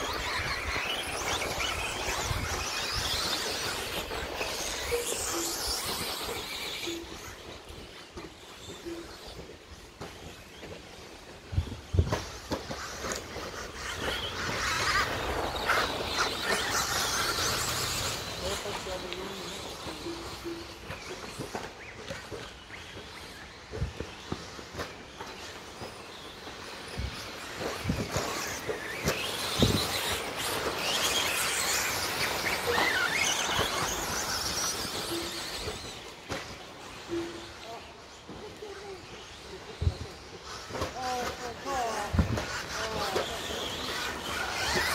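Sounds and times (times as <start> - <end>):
tyre noise on dirt: 0.0 - 38.2, 40.1 - 44.9
rc truck motor whine: 0.0 - 38.3, 40.1 - 44.9.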